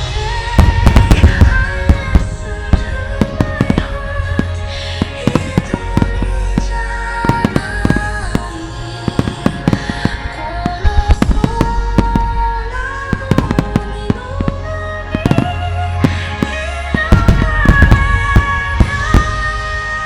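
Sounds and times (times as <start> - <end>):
deep rolling booms: 0.0 - 19.8
fireworks bangs and crackles: 0.0 - 20.0
music with held notes: 0.0 - 20.0.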